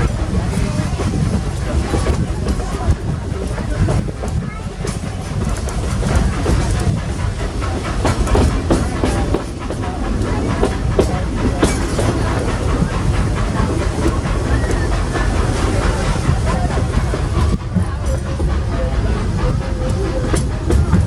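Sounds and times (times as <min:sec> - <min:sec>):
train low rumble: 0:00.0 - 0:21.0
wheels clacking over rail joints: 0:00.0 - 0:21.0.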